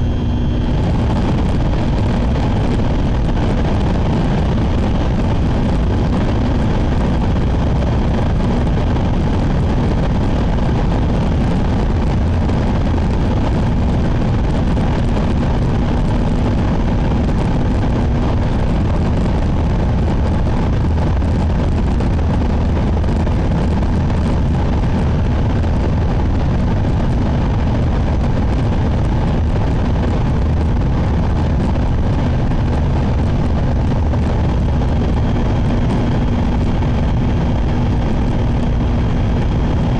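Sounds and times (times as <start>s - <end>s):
faint constant hum: 0.0s - 39.9s
train running noise rumble: 0.0s - 39.9s.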